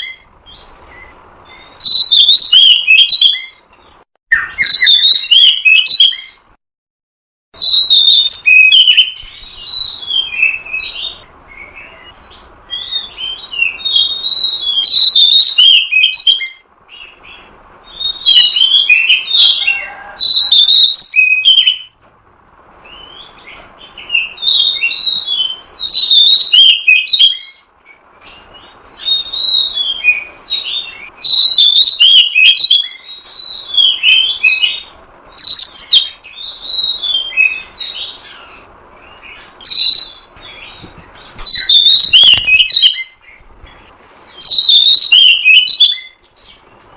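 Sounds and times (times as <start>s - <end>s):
bird song whistled and chattering: 0.0s - 6.6s, 7.6s - 22.0s, 22.8s - 46.9s.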